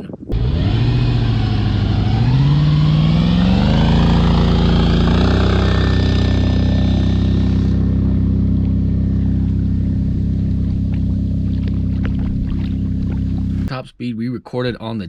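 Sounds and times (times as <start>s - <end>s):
jet ski engine under throttle: 0.3s - 13.7s.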